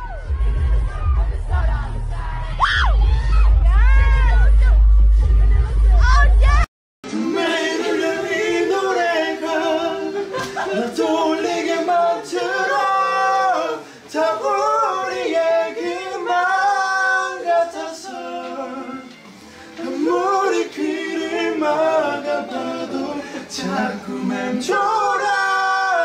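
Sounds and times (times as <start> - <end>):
a cappella singing: 0.2 - 5.7, 6.6 - 26.0.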